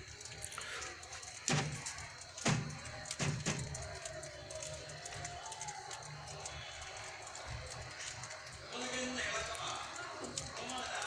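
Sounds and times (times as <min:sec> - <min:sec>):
birds pecking seeds: 0:00.0 - 0:11.0.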